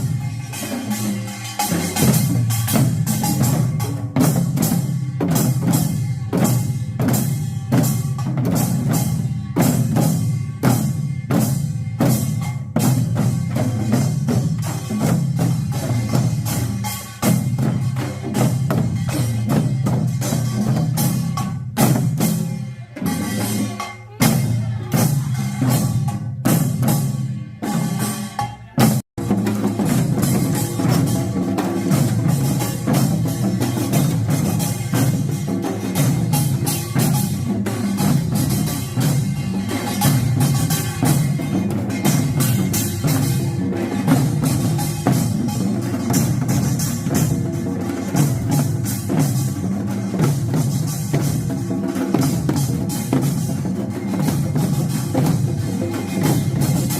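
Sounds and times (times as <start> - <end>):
gongs and drums playing: 0.0 - 56.9.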